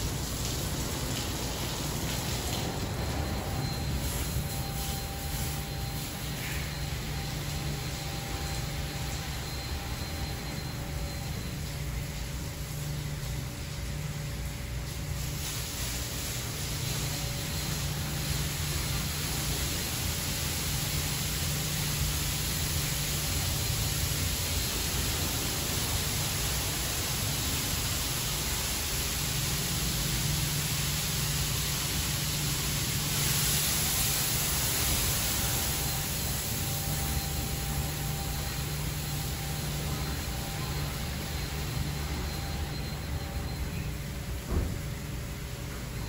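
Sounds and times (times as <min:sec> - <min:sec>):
pumps and motors humming: 0:00.0 - 0:46.0.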